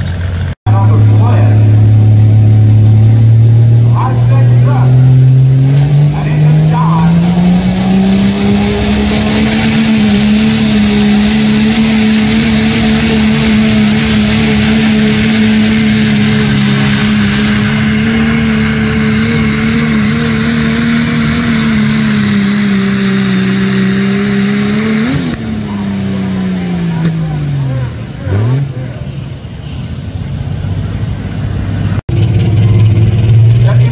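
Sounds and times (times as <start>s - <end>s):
diesel pickup engine at full throttle: 0.0s - 33.9s.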